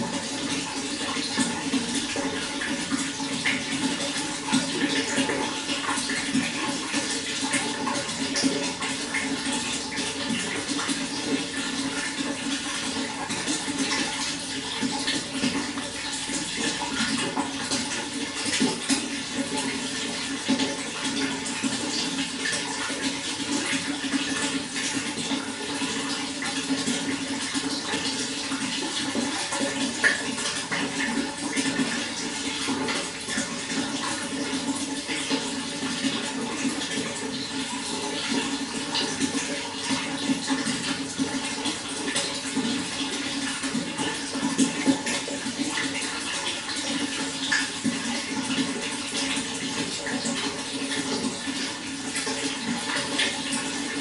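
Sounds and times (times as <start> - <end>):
running water splashing: 0.0 - 54.0.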